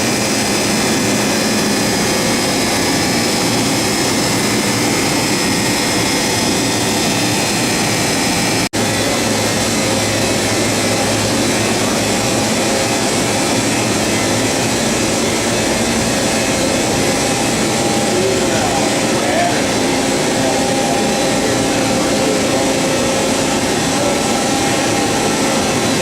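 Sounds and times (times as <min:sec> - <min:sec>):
factory noise: 0:00.0 - 0:26.0
machine hum and whir: 0:00.0 - 0:26.0.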